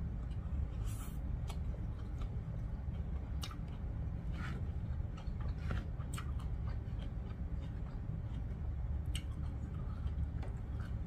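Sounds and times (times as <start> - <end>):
person chewing noodles: 0.0 - 11.0
steady low hum: 0.0 - 11.0.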